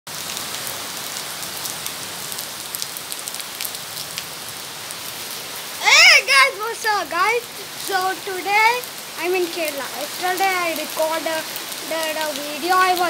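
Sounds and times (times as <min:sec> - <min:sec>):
raindrops tapping close by: 0:00.1 - 0:13.0
steady rain hiss: 0:00.1 - 0:13.0.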